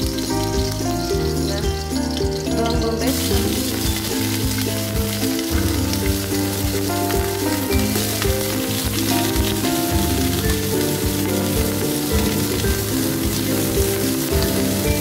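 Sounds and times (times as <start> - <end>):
background music: 0.0 - 15.0
onion sizzling in hot oil: 0.0 - 15.0.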